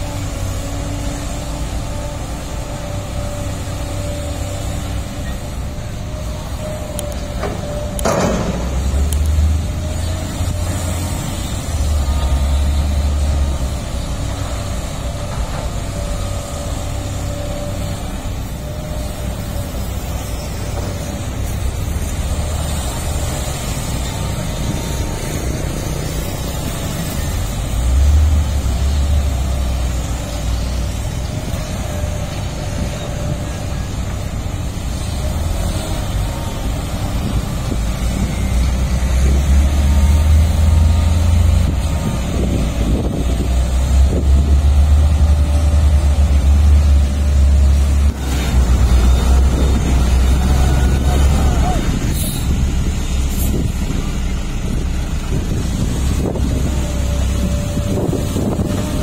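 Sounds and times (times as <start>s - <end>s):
diesel machinery engine rumble: 0.0s - 59.0s.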